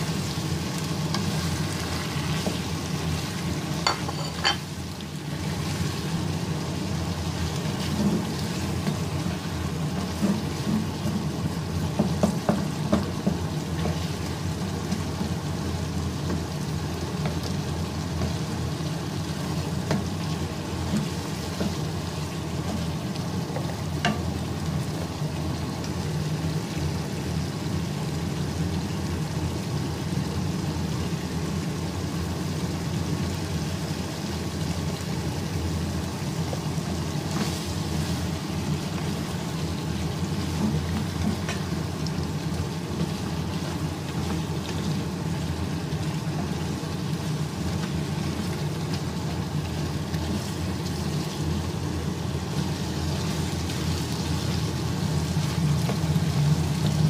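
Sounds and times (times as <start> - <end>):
meat sizzling in a wok: 0.0 - 57.0.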